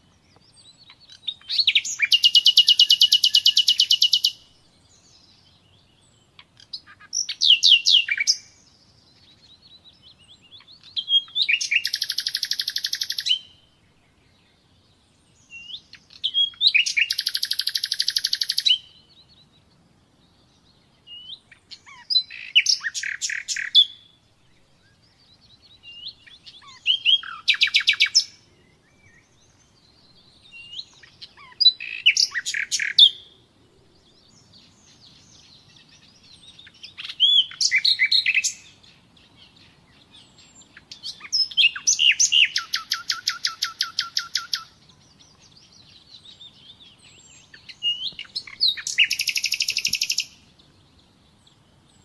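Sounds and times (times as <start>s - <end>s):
nightingale singing: 0.0s - 52.0s.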